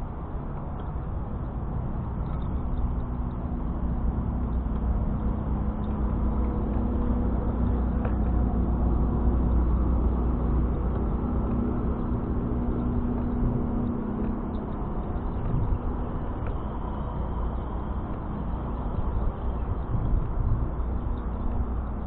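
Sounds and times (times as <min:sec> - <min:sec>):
faint steady hum: 0:00.0 - 0:22.0
wind and road noise: 0:00.0 - 0:22.0.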